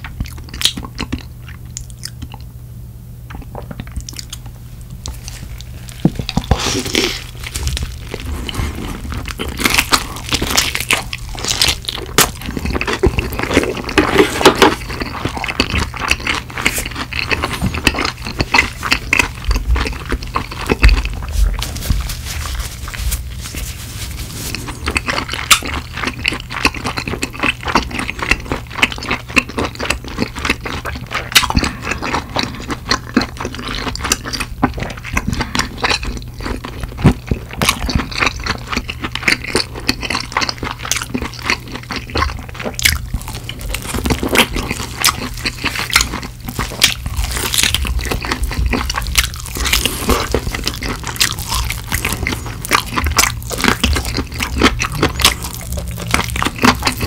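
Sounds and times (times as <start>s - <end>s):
crunchy chewing of fried chicken: 0.0s - 2.6s, 3.2s - 57.0s.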